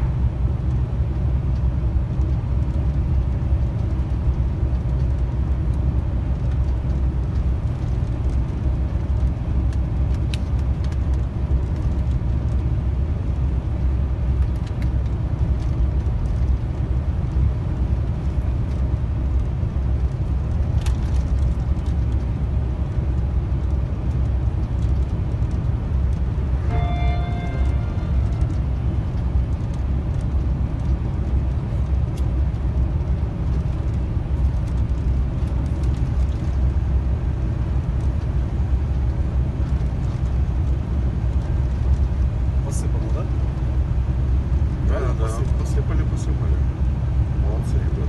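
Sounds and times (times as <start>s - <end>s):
truck engine and road rumble: 0.0s - 48.0s.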